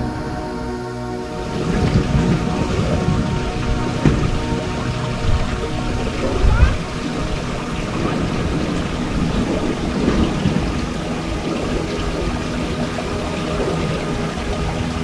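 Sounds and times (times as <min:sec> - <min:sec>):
wind buffeting the microphone: 0:01.2 - 0:15.0.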